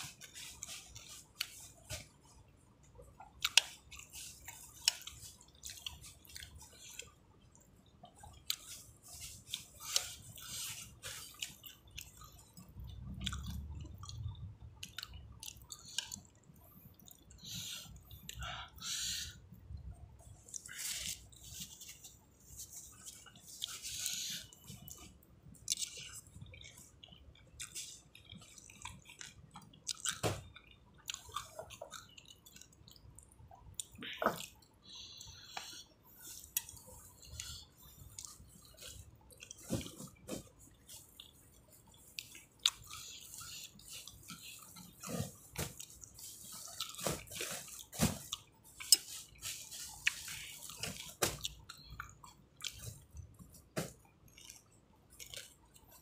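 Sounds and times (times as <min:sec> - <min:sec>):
wet chewing and slurping: 0:03.0 - 0:56.0.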